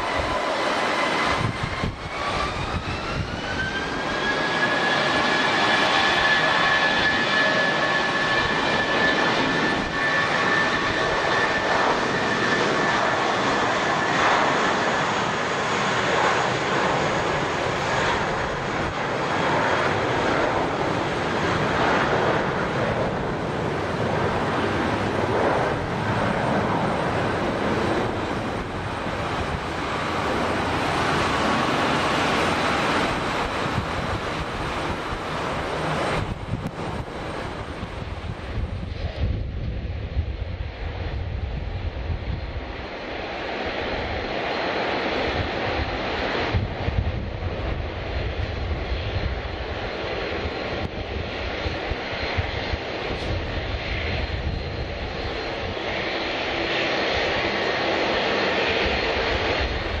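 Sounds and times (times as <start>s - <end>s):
high engine whine: 0.0s - 60.0s
jet engines running: 0.0s - 60.0s.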